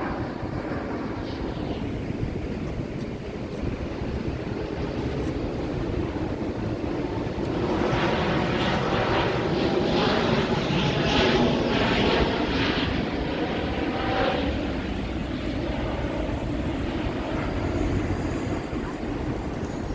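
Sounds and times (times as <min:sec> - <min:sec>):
jet airliner roar passing: 0:00.0 - 0:19.9.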